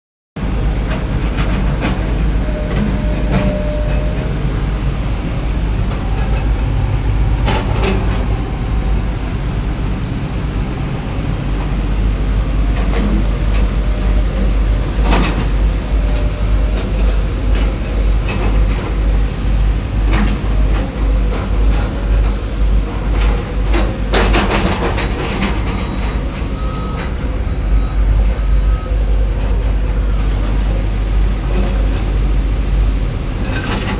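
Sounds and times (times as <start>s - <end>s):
excavator diesel engine rumbling: 0.4s - 33.9s.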